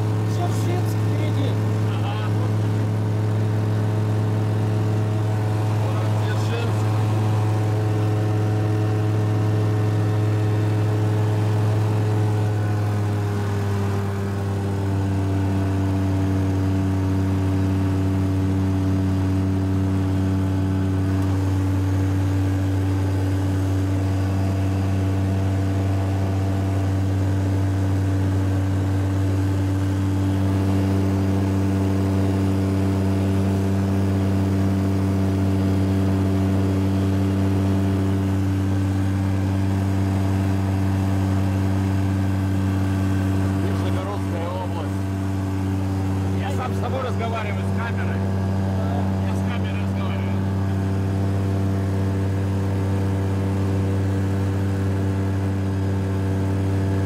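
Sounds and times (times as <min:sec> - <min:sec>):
propeller engine droning: 0:00.0 - 0:57.0.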